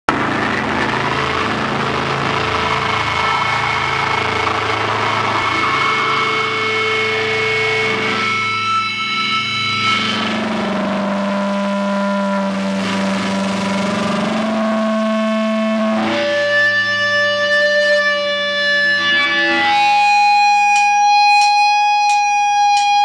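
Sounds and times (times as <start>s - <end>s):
distorted guitar and bass drone: 0.1s - 23.0s
ringing guitar tones: 0.1s - 23.0s.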